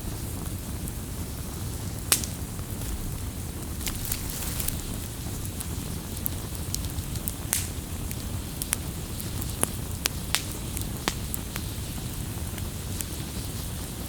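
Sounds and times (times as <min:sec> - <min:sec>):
low rush of burning fire: 0:00.0 - 0:14.0
campfire crackling and popping: 0:00.4 - 0:14.0.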